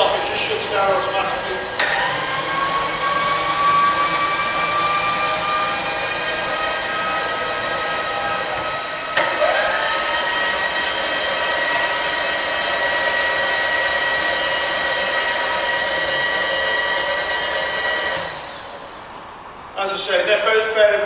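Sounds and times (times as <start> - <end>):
power feed motor whine: 0.0 - 19.1.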